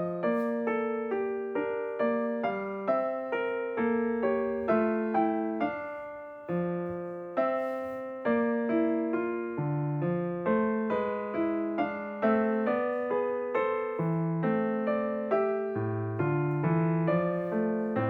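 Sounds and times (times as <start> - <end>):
gentle solo piano melody: 0.0 - 18.0.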